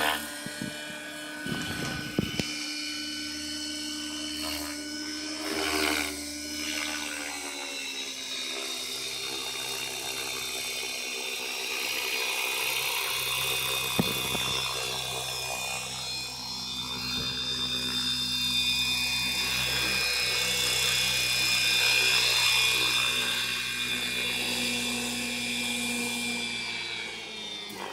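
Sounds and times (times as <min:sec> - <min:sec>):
rc helicopter motor whine: 0:00.0 - 0:27.9.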